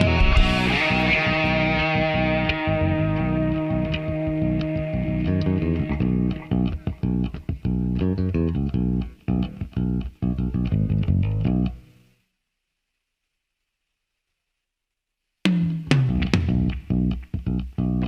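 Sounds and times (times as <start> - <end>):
electric bass plucked notes: 0.0 - 12.0, 15.5 - 18.0.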